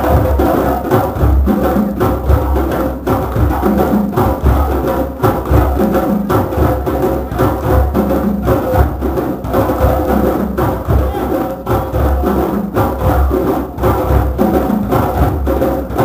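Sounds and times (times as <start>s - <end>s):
hand drums playing rhythm: 0.0s - 16.0s.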